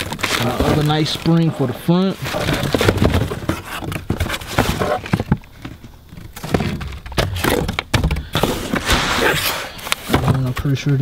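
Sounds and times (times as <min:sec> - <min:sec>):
cardboard boxes and plastic rustling: 0:00.0 - 0:11.0.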